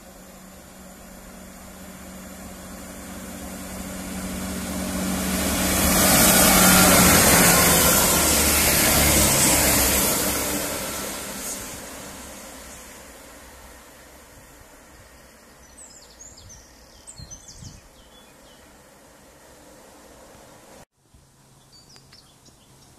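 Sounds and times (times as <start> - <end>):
diesel train engine passing: 0.0 - 20.9
wheels rushing on rail: 0.0 - 20.9.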